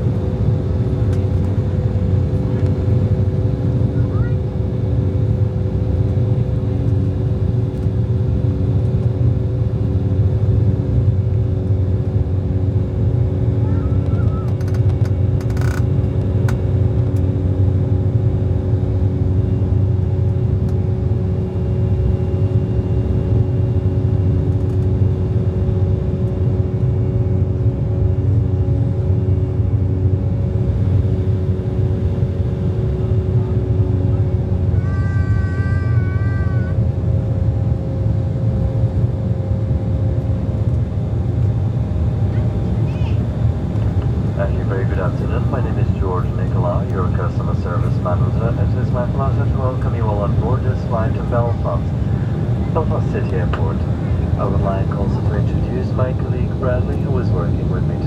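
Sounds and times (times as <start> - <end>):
jet engines in cabin rumbling: 0.0 - 58.0.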